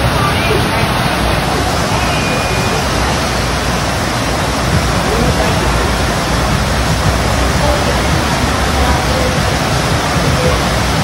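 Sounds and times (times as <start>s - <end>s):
rushing pumped water: 0.0s - 11.0s.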